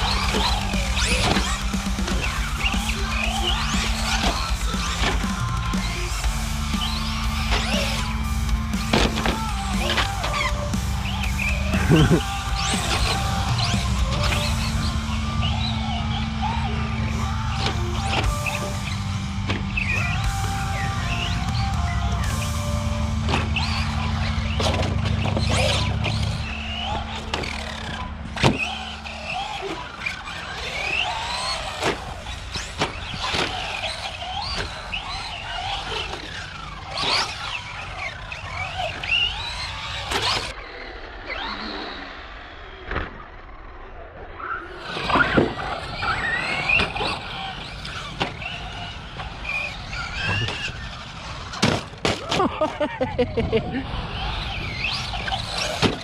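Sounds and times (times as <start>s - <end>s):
tyres squealing: 0.0s - 40.6s, 44.7s - 56.0s
electric motor whining: 0.0s - 43.3s, 44.6s - 56.0s.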